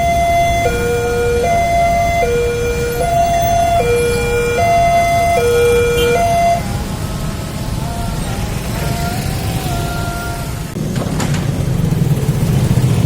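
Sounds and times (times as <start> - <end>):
two-tone crossing warning siren: 0.0 - 10.8
road traffic rumble: 0.0 - 13.0.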